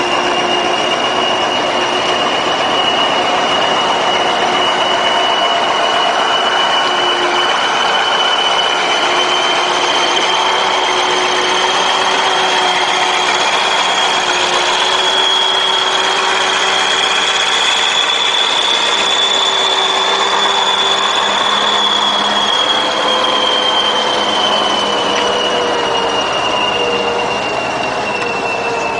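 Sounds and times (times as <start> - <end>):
high mechanical whine: 0.0 - 28.9
truck diesel engine under load: 0.0 - 28.9.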